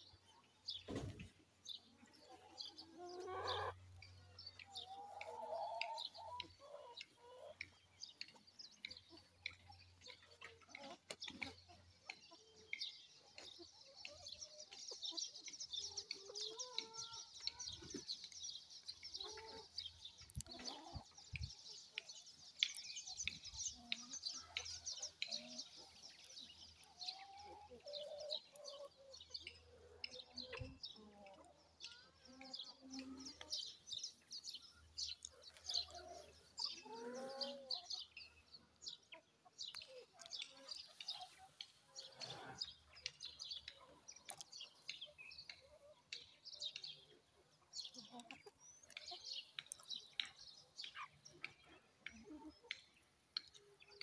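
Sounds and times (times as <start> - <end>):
chickens clucking softly: 0.0 - 54.0.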